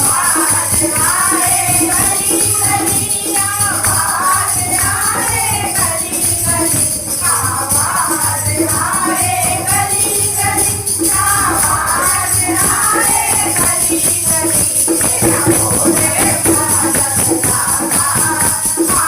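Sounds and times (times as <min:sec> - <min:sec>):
jingling percussion: 0:00.0 - 0:19.0
voices singing a devotional song: 0:00.0 - 0:19.0.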